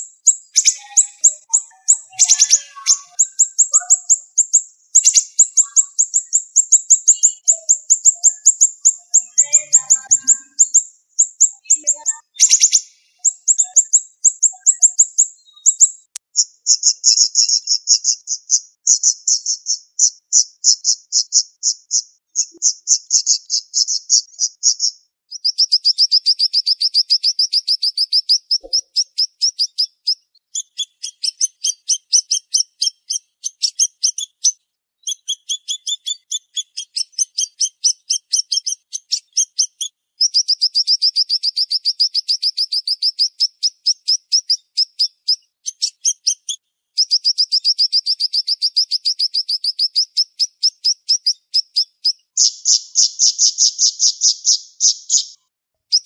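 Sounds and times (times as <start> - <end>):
bird singing fast high chirps: 0.0 - 56.0.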